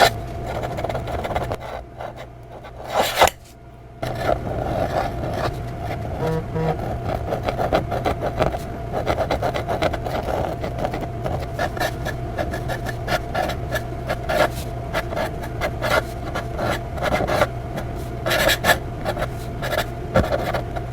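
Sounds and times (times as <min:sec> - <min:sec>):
pen nib scratching paper: 0:00.0 - 0:03.4, 0:04.0 - 0:20.9
steady low hum: 0:00.0 - 0:20.9.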